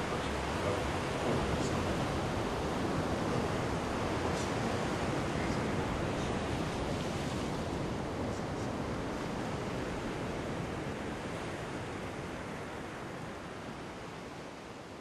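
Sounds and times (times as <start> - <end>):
sea waves rushing: 0.0 - 15.0.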